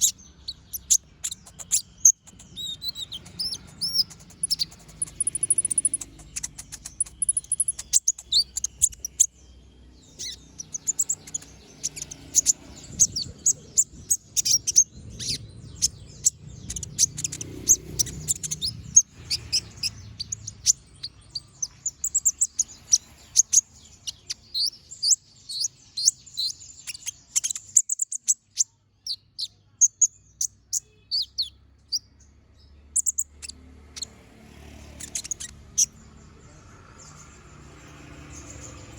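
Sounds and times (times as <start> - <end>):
sunbird chirping and whistling: 0.0 - 32.1, 33.0 - 34.1, 34.8 - 36.0.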